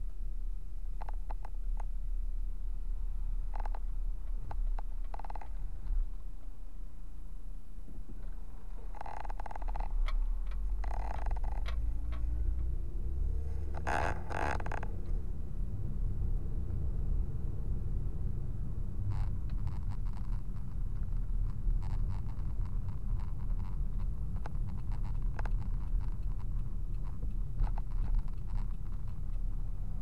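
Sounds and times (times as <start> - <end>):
car cabin road rumble: 0.0 - 30.0.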